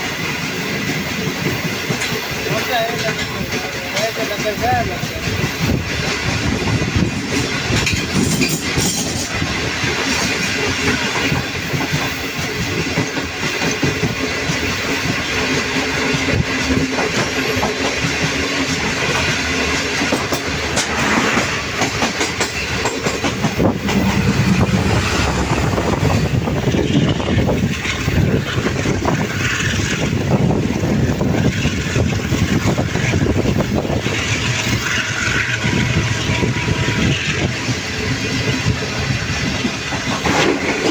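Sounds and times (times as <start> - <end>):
train rushing noise: 0.0 - 40.9
train wheels clattering on rails: 0.0 - 40.9.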